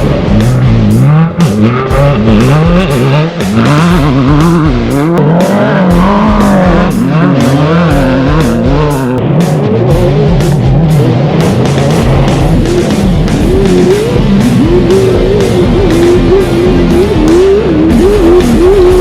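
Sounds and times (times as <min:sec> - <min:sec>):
rock music with drum beat: 0:00.0 - 0:19.0
vehicle engines revving: 0:00.0 - 0:19.0.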